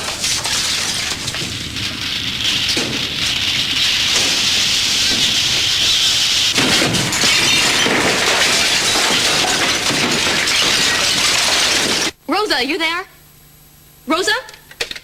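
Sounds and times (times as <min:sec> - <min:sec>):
loud rumbling: 0:00.0 - 0:12.0
debris crashing: 0:00.0 - 0:12.2.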